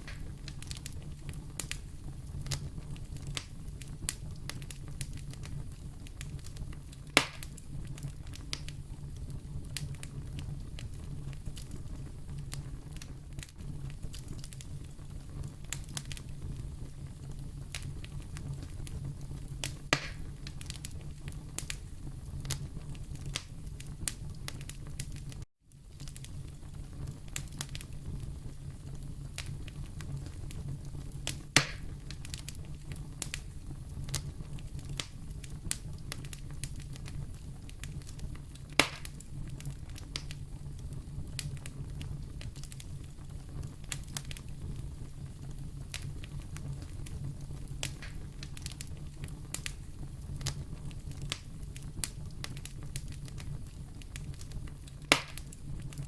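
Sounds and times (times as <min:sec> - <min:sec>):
sharp fire pops: 0:00.0 - 0:56.0
wood fire crackling: 0:00.0 - 0:56.0.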